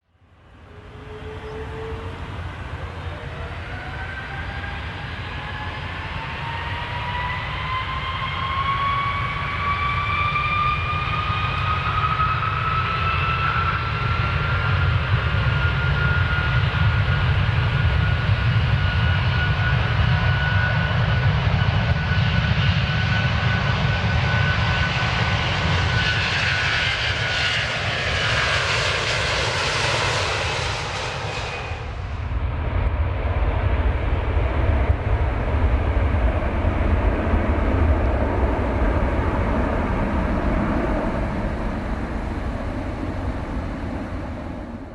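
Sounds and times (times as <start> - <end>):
airplane engines spooling up: 0.2 - 44.9.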